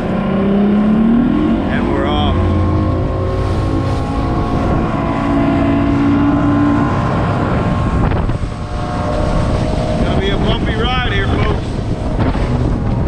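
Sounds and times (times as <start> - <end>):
outboard motor drone: 0.0 - 13.0
water rushing past hull: 0.0 - 13.0
wind buffeting microphone: 0.0 - 13.0.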